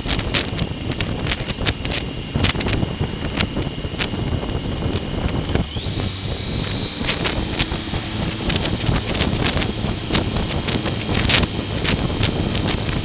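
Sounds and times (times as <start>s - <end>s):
sharp crackles: 0.0s - 4.2s, 4.9s - 13.0s
faint high whine: 0.0s - 13.0s
wind buffeting microphone: 0.0s - 13.0s.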